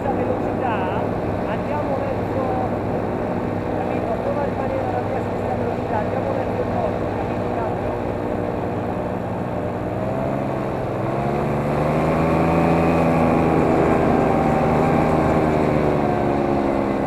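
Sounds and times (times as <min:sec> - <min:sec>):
motor running: 0:00.0 - 0:17.0.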